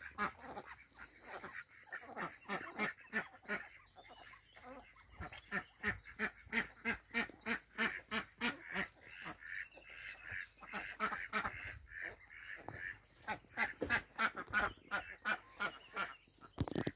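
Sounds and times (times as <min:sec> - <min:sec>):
ducks quacking: 0:00.0 - 0:16.9.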